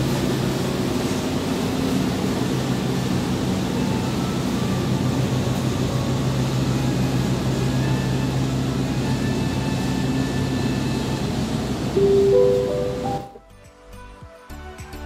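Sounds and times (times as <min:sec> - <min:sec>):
idling train mechanical hum: 0:00.0 - 0:13.4.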